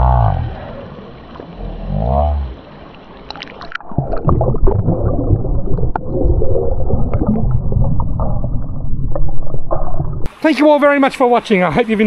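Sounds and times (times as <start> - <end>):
muffled underwater bubbling: 0.0 - 10.3.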